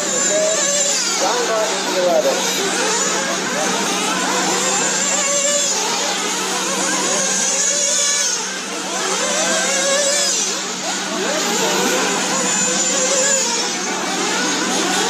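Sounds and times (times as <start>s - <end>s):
rc car engines whining: 0.0s - 15.0s.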